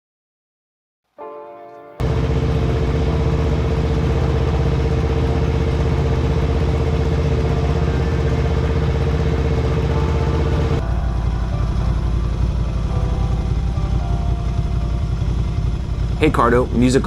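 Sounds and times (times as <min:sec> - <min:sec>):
motorcycle engine running: 0:02.0 - 0:17.0.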